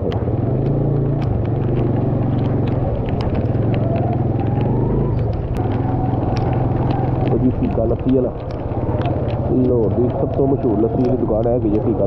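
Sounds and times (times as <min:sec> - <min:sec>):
sharp ticks: 0:00.0 - 0:12.0
vehicle engine running: 0:00.0 - 0:12.0.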